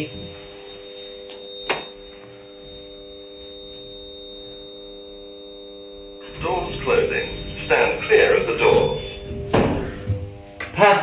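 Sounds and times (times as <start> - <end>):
electrical hum in a lift: 0.0 - 11.0.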